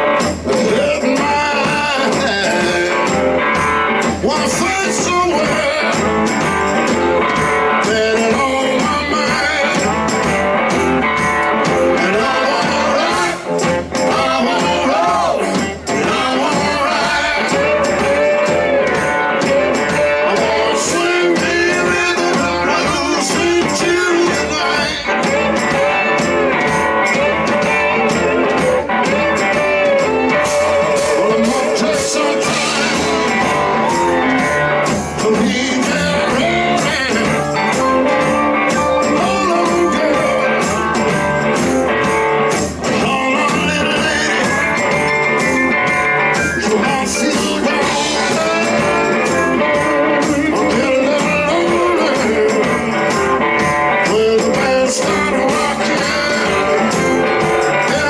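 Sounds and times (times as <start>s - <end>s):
person singing: 0.0s - 10.4s, 11.0s - 58.0s
live blues-rock band: 0.0s - 58.0s.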